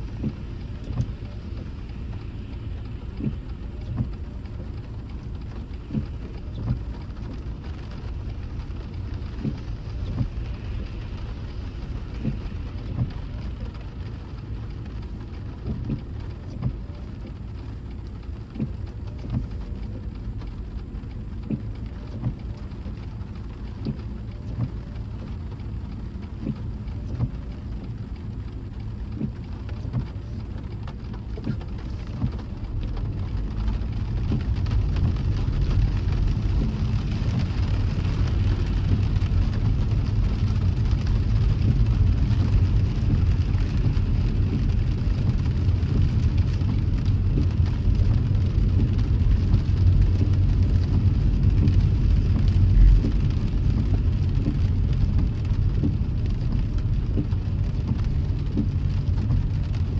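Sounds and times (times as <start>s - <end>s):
car rumbling on road: 0.0s - 59.9s
raindrops tapping car body: 0.0s - 59.9s.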